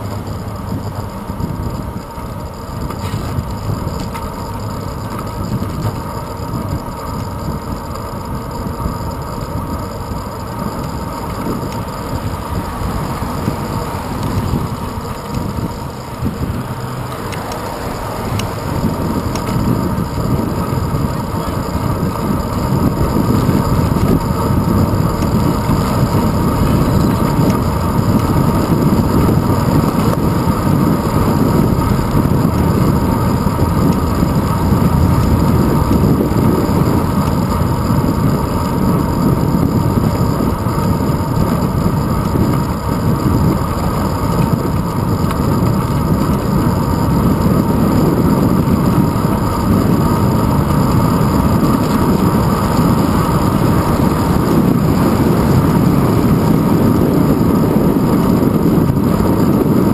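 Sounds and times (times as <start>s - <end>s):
tyre and road noise: 0.0s - 59.9s
wind rushing over microphone: 0.0s - 59.9s.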